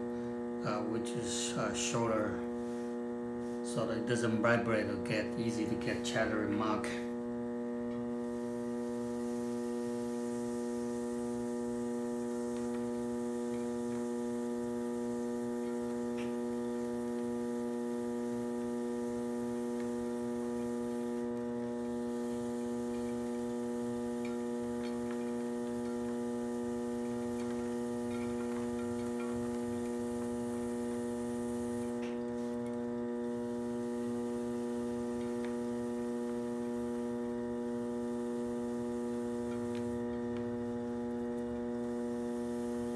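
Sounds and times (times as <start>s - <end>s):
potter's wheel motor humming: 0.0s - 42.9s.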